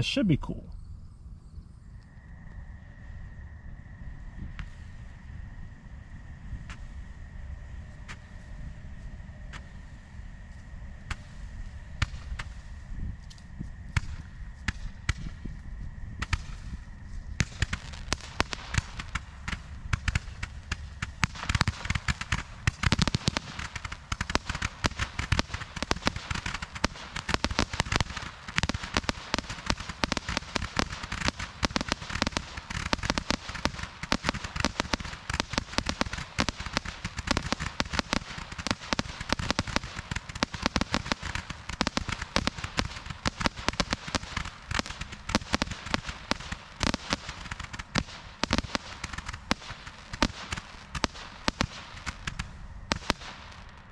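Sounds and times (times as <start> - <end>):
fireworks cracking shots: 6.4 - 53.9.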